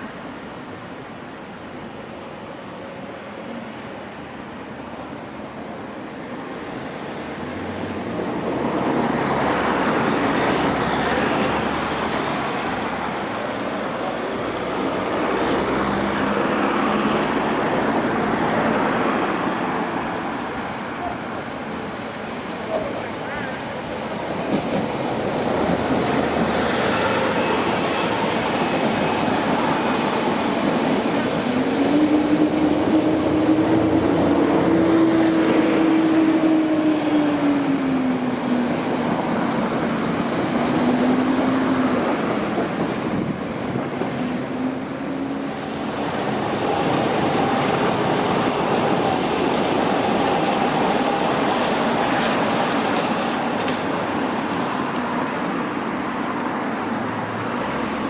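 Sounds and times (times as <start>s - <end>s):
low train whine: 0.0s - 58.0s
train wheels rumbling on track: 0.0s - 58.0s.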